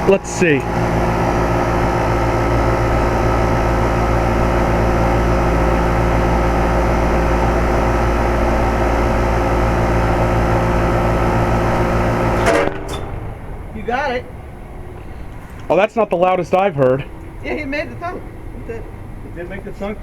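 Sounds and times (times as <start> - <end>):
air conditioner compressor hum: 0.0 - 20.0
condenser fan noise: 0.0 - 20.0.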